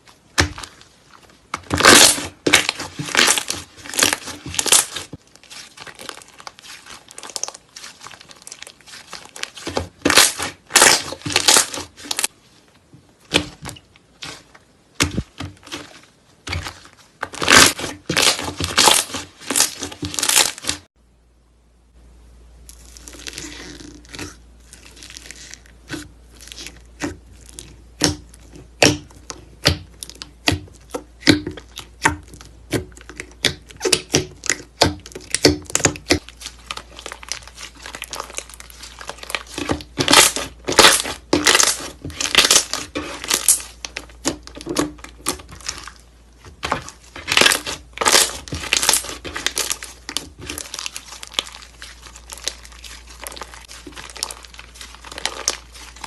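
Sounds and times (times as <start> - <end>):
slime popping and crackling: 1.5 - 12.3, 15.0 - 20.9, 22.7 - 56.0.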